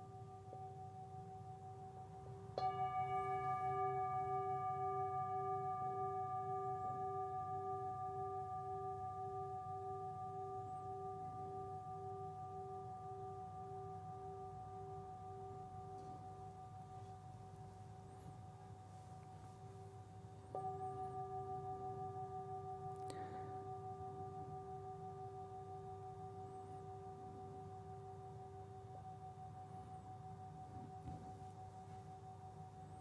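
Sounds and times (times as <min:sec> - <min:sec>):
singing bowl ringing: 0:00.0 - 0:33.0.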